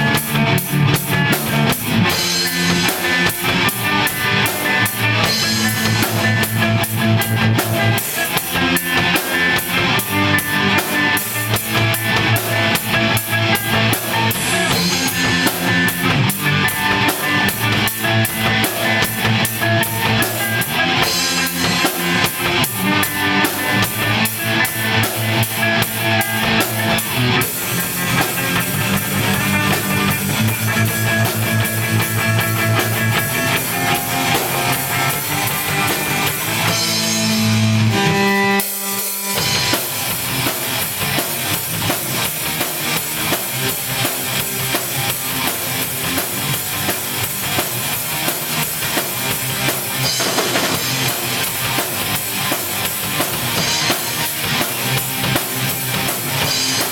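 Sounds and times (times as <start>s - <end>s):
punk rock band instrumental: 0.0s - 56.9s.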